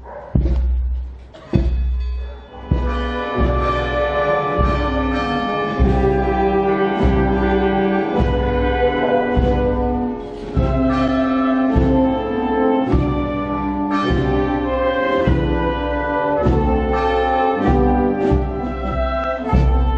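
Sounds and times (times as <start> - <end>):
brass chords: 0.0 - 19.9
deep bass: 0.0 - 19.9.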